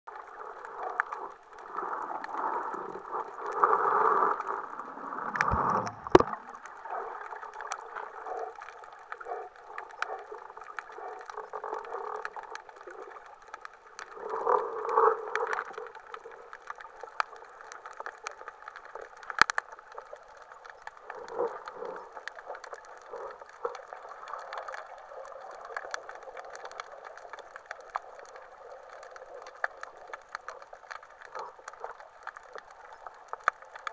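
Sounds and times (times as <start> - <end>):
muffled underwater rushing: 0.1 - 33.9.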